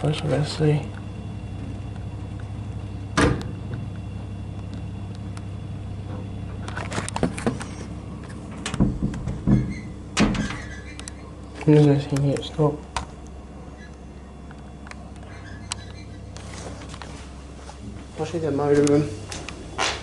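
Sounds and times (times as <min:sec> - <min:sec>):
lift humming in shaft: 0:00.0 - 0:20.0.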